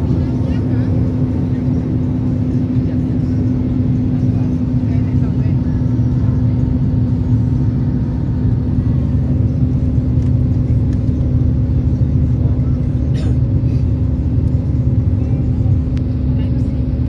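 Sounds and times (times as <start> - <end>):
jet cabin engine rumble: 0.0 - 17.0.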